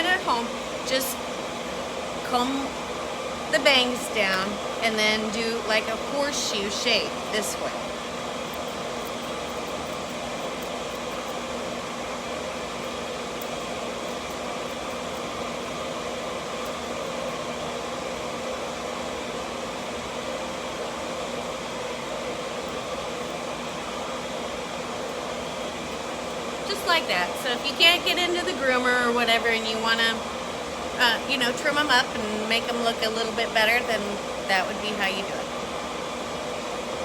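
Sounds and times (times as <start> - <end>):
faint steady hum: 0.0 - 37.0
fan whirring: 0.0 - 37.0.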